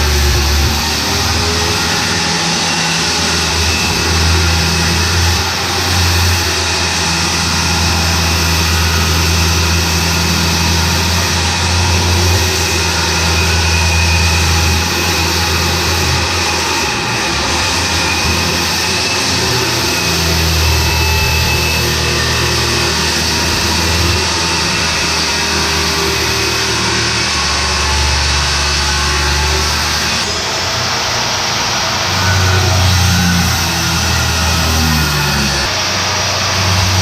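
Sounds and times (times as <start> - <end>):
power tool motor running: 0.0 - 37.0.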